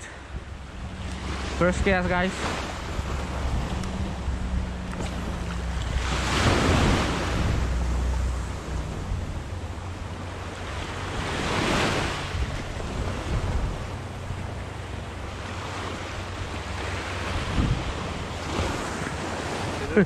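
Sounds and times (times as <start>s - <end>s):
small waves breaking on sand: 0.0s - 20.0s
wind rumble on microphone: 0.0s - 20.0s.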